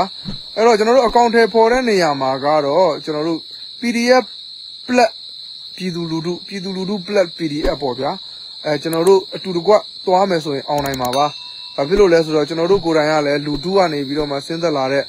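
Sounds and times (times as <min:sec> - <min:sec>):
man talking: 0:00.0 - 0:04.2, 0:04.9 - 0:05.1, 0:05.8 - 0:15.0
high-pitched insect chorus: 0:00.0 - 0:15.0.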